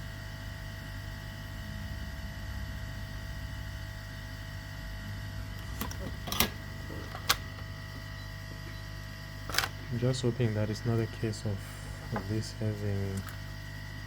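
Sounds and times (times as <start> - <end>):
faint high whine: 0.0 - 14.0
low electrical hum: 0.0 - 14.0.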